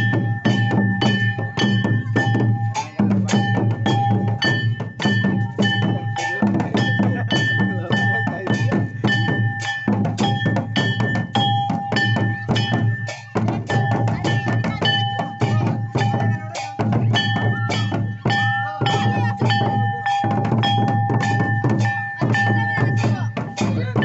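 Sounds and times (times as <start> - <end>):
hand drums in fast rhythm: 0.0 - 24.0
sustained high melodic tone: 0.0 - 24.0.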